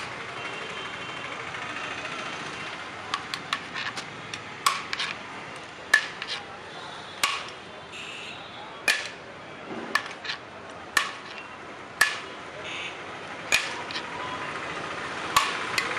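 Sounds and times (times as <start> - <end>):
steady background noise: 0.0 - 15.9.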